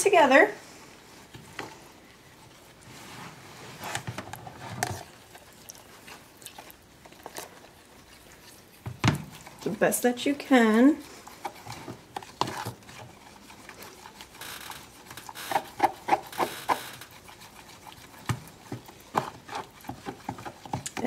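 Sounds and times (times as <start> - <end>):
spoon stirring thick mixture: 3.8 - 21.0.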